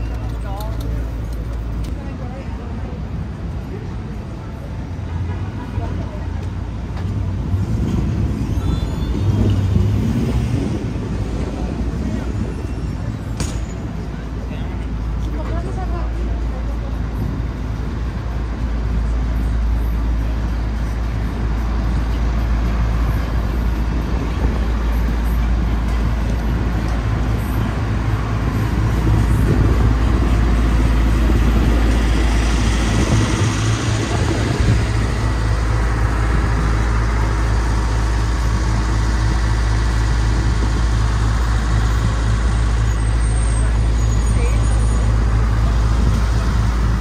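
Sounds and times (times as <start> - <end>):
street traffic rumble: 0.0 - 47.0.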